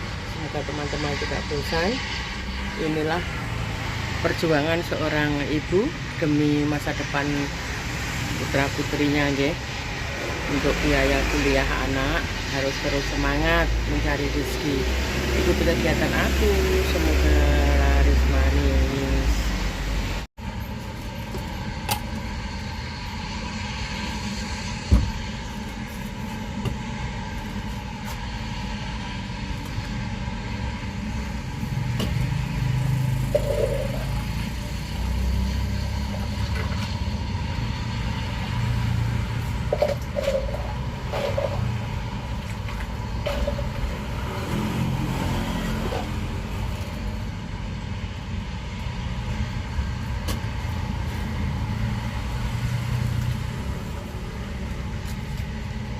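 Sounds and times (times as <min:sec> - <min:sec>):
engines and traffic rumbling: 0:00.0 - 0:55.9.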